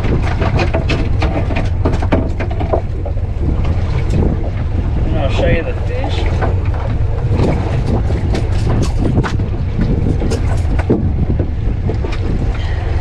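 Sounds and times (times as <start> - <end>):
strong wind buffeting microphone: 0.0 - 13.0
water slapping against hull: 0.0 - 13.0.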